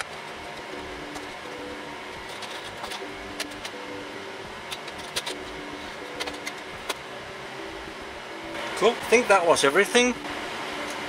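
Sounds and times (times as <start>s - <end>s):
server hum: 0.0s - 11.0s.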